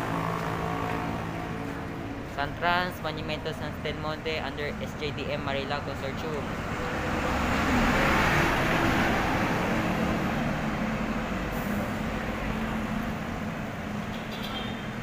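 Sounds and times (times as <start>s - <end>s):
bus engine hum and tyre rush: 0.0s - 15.0s
street traffic noise: 0.0s - 15.0s.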